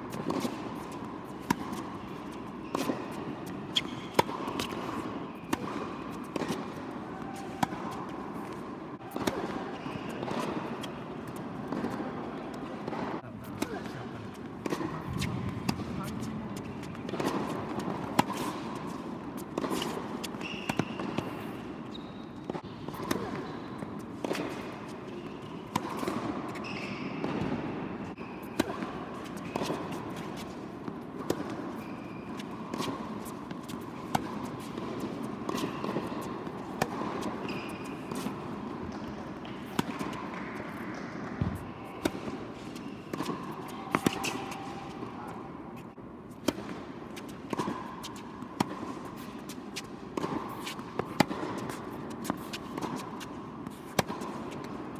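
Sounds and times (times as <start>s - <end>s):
racket striking ball: 0.1s - 21.7s, 22.4s - 54.9s
shoes squeaking on court: 0.1s - 54.9s
tennis ball bouncing: 0.1s - 54.9s.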